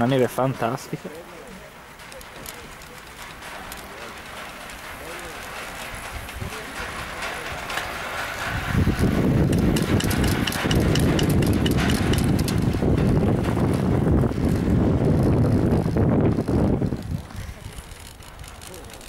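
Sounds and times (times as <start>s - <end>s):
chairlift rope rumble: 0.0s - 19.0s.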